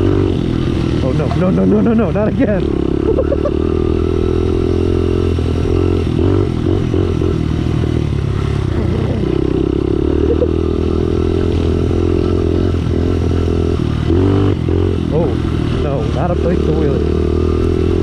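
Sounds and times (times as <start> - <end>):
pit bike engine revving: 0.0 - 18.0.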